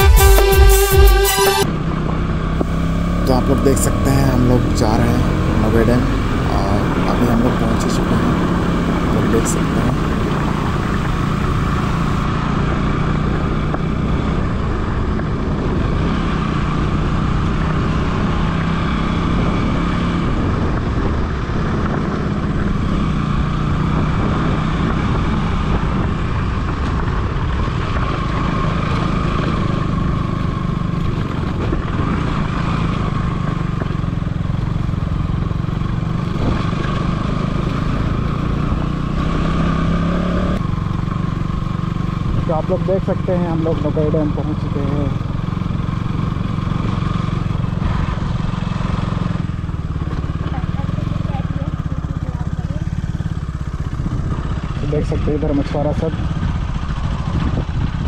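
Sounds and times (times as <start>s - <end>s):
motorcycle engine running: 0.0s - 58.0s
wind and road noise: 1.6s - 58.0s.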